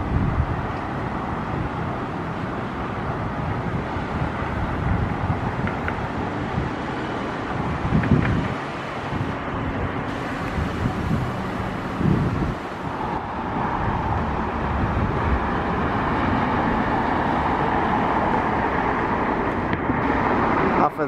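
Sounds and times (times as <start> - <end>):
wind buffeting microphone: 0.0 - 20.9
distant road traffic rumble: 0.0 - 21.0.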